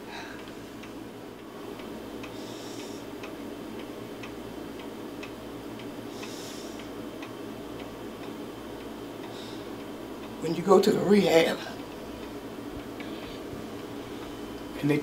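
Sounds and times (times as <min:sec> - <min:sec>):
steady ticking: 0:00.4 - 0:15.0.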